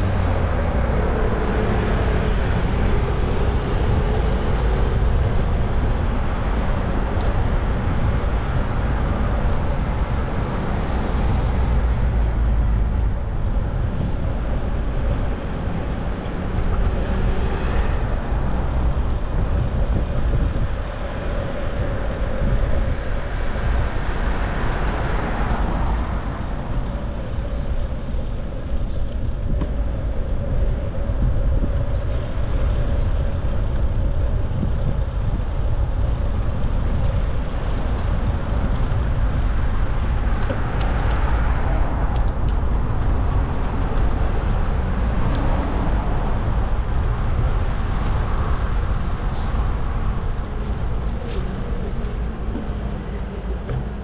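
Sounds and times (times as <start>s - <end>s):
road traffic: 0.0s - 54.0s
vehicles passing: 0.0s - 54.0s
wind rumble on microphone: 0.0s - 54.0s.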